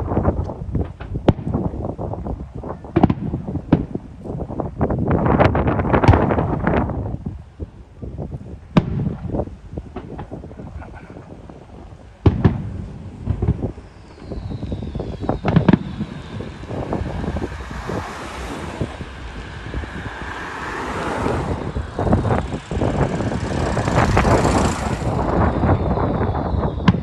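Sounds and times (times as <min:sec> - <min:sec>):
fireworks bangs: 0:00.0 - 0:07.0, 0:08.6 - 0:27.0
fireworks crackling pops: 0:00.0 - 0:07.2, 0:08.2 - 0:27.0.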